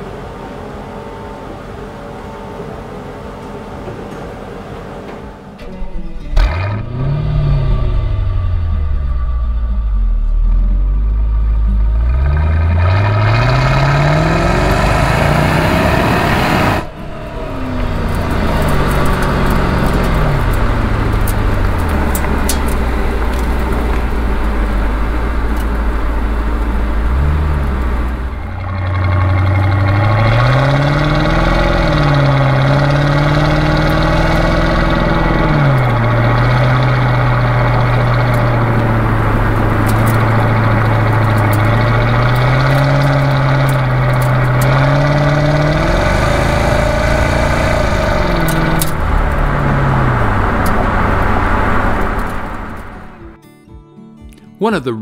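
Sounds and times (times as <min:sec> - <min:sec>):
car engine revving: 0:00.0 - 0:53.4
road noise: 0:00.0 - 0:53.4.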